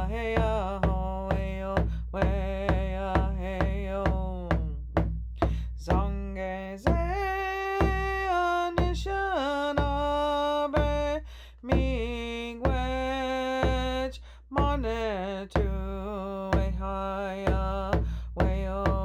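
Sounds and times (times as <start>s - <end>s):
woman singing: 0.0s - 4.8s, 5.8s - 19.0s
hand drum beats: 0.0s - 19.0s.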